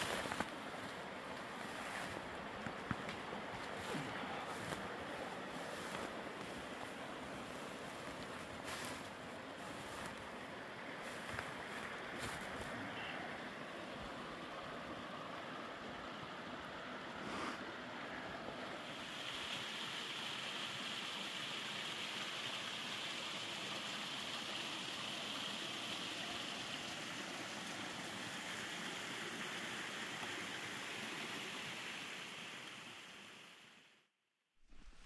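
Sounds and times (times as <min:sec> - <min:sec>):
stream water rushing: 0:00.0 - 0:33.8.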